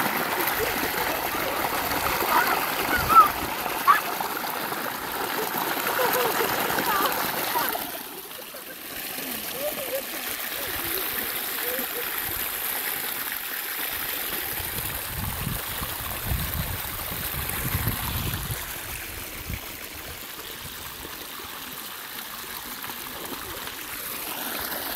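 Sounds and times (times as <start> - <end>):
low rumbling water surges: 0.0 - 24.9
stream water rushing: 0.0 - 24.9.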